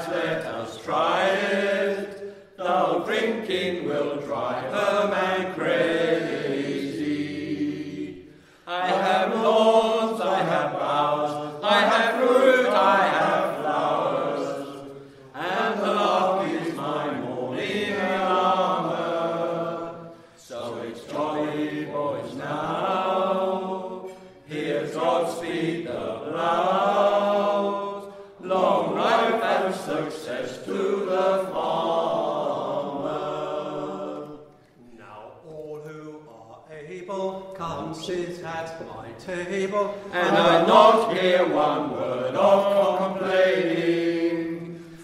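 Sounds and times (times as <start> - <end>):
men singing folk song together: 0.0 - 34.5, 36.1 - 45.0.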